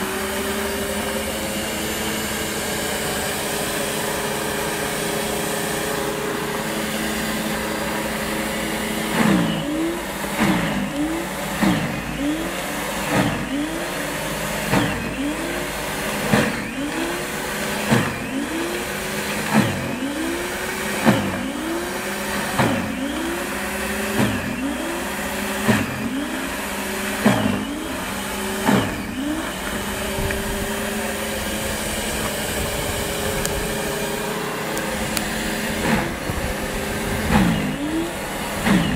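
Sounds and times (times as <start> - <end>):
snow thrower motor whining: 0.0 - 38.9.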